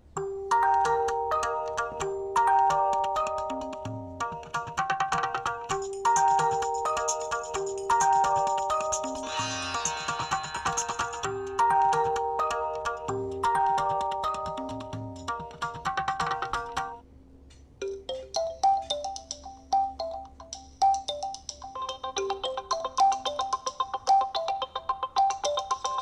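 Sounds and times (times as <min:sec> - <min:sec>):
bell-like ringtone melody: 0:00.2 - 0:04.7, 0:05.7 - 0:15.6, 0:17.8 - 0:26.0
percussive ringtone tune: 0:00.2 - 0:17.0, 0:17.8 - 0:26.0.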